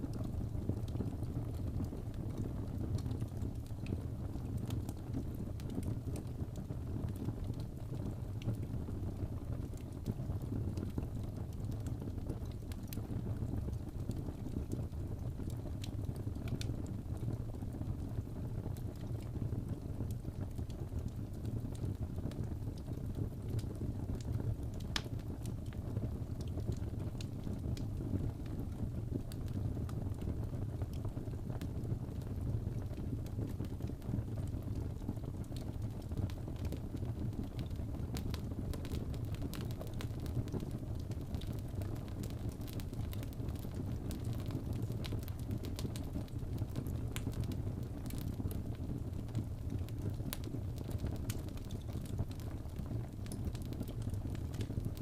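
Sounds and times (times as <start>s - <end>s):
fire crackles and pops: 0.0s - 55.0s
fire flames roaring: 9.6s - 55.0s.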